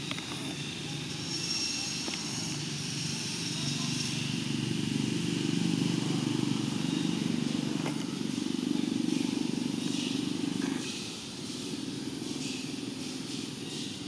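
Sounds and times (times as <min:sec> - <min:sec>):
motor droning: 0:00.0 - 0:14.0.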